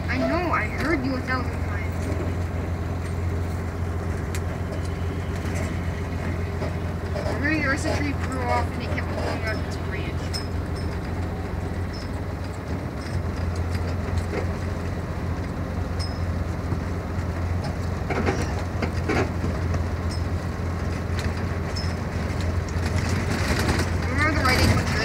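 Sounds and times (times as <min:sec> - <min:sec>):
engine drone and road rumble: 0:00.0 - 0:25.0
rattles from vehicle body: 0:00.0 - 0:25.0.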